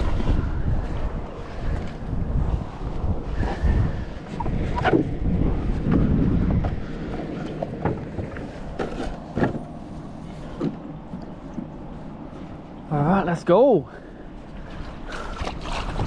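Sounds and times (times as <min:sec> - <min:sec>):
wind buffeting microphone: 0:00.0 - 0:12.8, 0:14.2 - 0:16.0.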